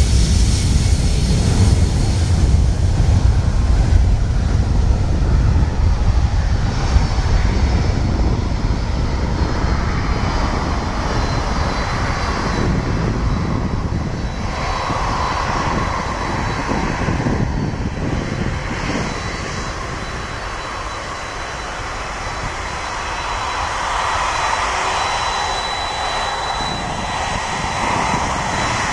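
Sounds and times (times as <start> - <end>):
faint high jet whine: 0.0 - 28.9
jet engine roar: 0.0 - 28.9.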